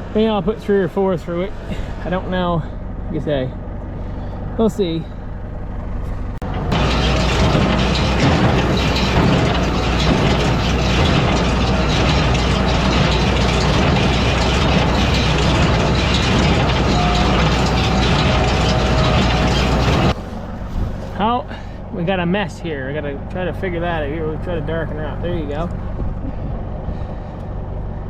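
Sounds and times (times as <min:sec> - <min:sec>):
baler machinery running: 0:00.0 - 0:26.2
tractor engine running: 0:00.0 - 0:28.0.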